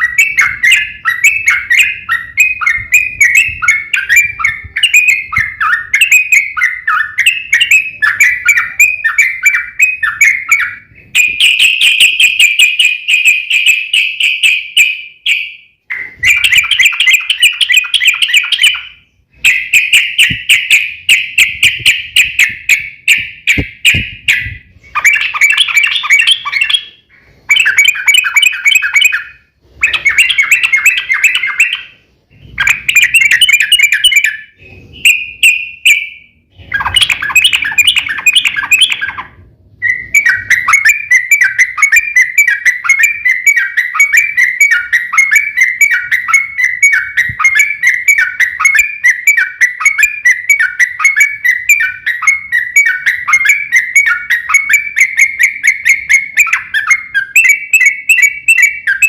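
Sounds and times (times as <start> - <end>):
bird long rolling trill: 0.0 - 32.0, 32.6 - 59.0
bird harsh chattering: 0.0 - 59.0.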